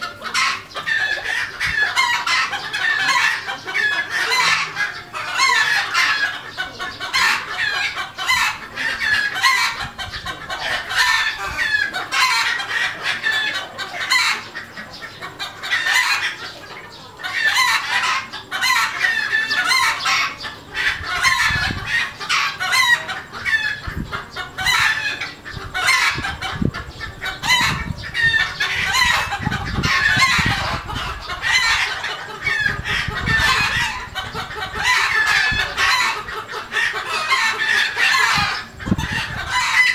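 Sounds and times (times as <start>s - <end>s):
chickens clucking: 0.0s - 39.9s
roosters crowing: 0.0s - 39.9s.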